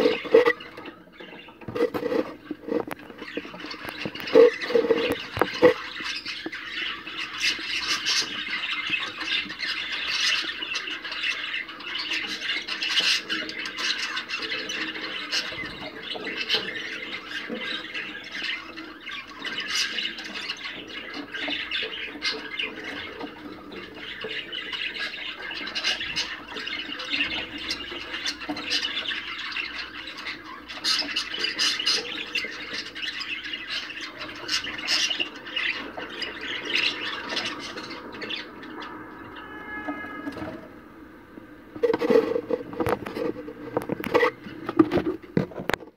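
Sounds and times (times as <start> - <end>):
budgerigars chattering: 0.0 - 40.8.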